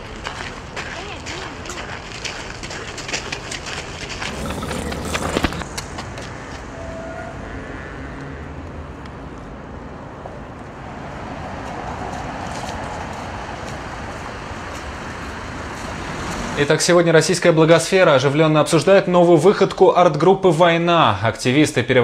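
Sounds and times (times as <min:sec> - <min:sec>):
road traffic: 0:00.0 - 0:17.8.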